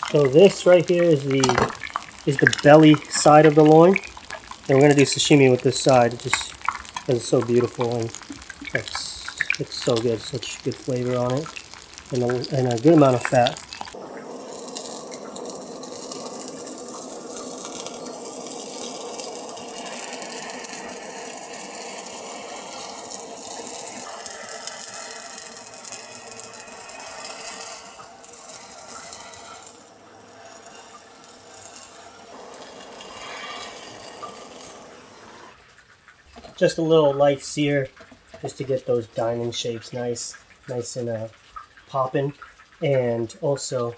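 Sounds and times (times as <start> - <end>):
blowtorch hissing: 0.0 - 35.6
fat sizzling and popping: 0.0 - 43.9.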